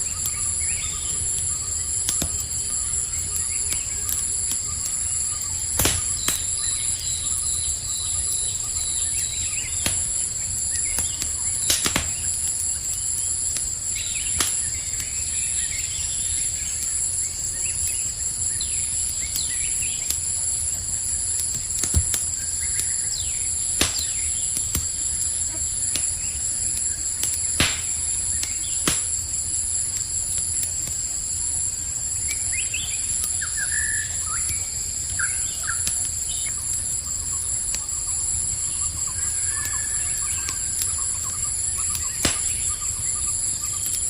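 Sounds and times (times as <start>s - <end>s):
campfire crackling: 0.0s - 44.0s
crickets trilling: 0.0s - 44.0s
fire popping: 0.0s - 44.0s.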